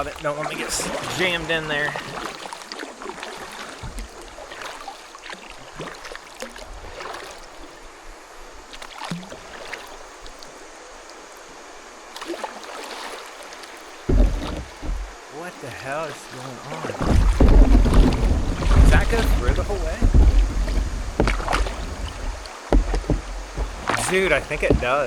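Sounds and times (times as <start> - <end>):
creek water running: 0.0 - 25.0
paddle splashes: 0.0 - 25.0.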